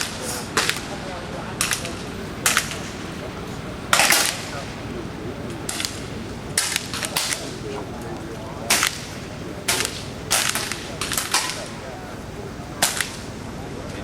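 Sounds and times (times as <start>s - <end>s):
air rifle shots cracking: 0.0s - 1.0s, 1.6s - 13.4s.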